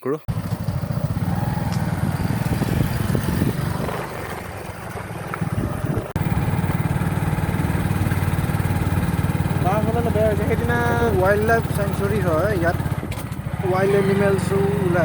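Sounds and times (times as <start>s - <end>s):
motorcycle engine pulsing: 0.0s - 15.0s.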